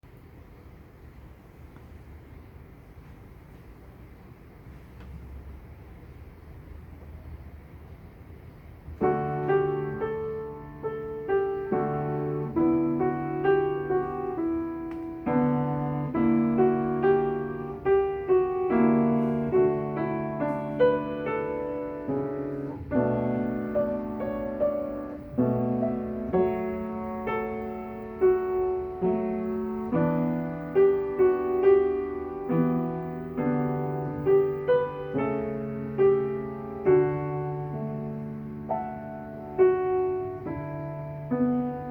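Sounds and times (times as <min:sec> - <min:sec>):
solo piano piece: 0:00.0 - 0:41.9.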